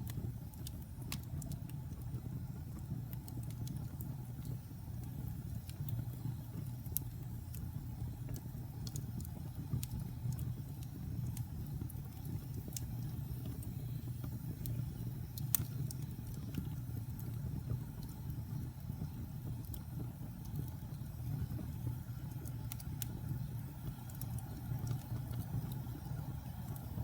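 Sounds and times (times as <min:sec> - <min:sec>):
fireplace fire crackling: 0:00.0 - 0:27.0.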